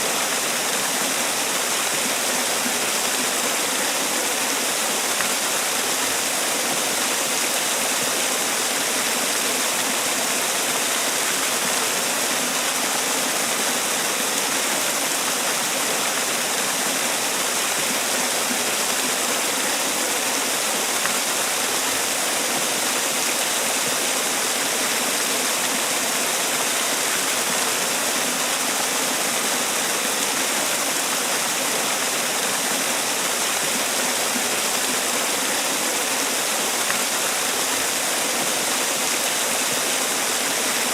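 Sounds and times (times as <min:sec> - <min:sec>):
waterfall splashing: 0:00.0 - 0:40.9.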